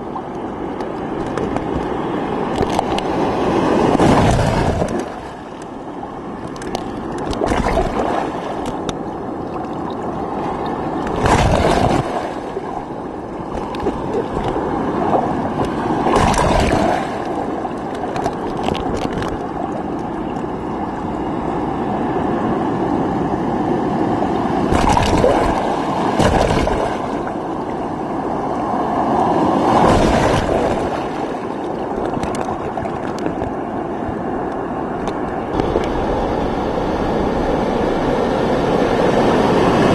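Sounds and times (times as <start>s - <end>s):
surf sloshing and gurgling: 0.0s - 39.9s
waves washing over camera: 0.0s - 39.9s.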